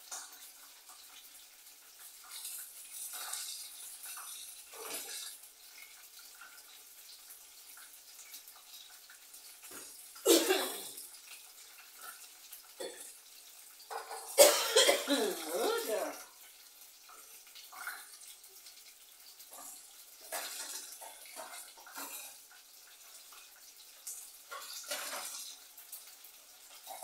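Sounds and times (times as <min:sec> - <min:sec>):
water running from a tap: 0:00.0 - 0:27.0.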